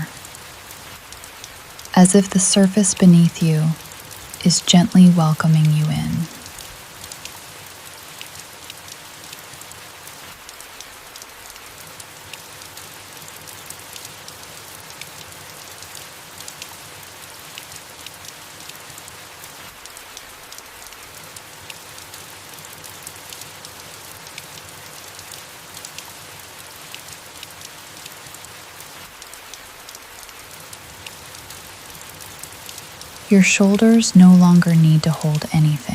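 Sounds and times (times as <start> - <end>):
rain falling on leaves: 0.0 - 35.9.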